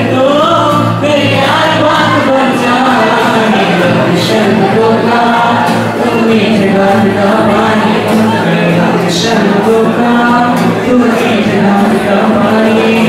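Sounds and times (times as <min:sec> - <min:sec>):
voices singing over music: 0:00.0 - 0:13.0.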